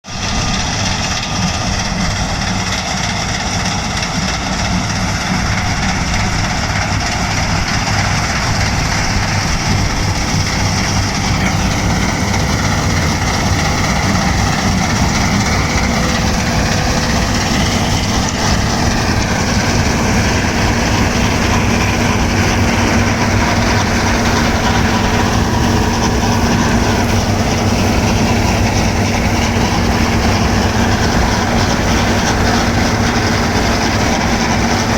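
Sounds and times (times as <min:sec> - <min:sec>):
combine harvester running: 0:00.0 - 0:34.9
high machine whine: 0:00.1 - 0:34.9.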